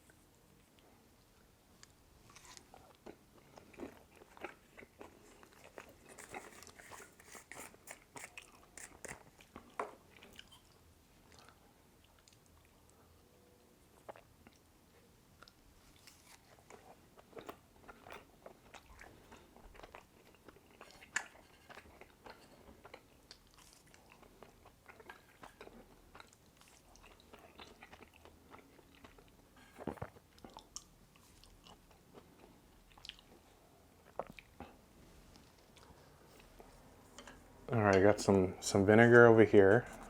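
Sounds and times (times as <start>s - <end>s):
person chewing noodles: 1.8s - 13.0s, 15.4s - 36.8s.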